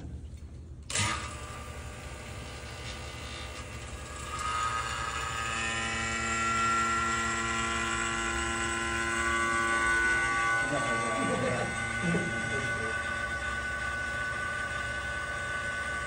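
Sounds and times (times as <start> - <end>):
vacuum pump motor humming: 0.0 - 16.0.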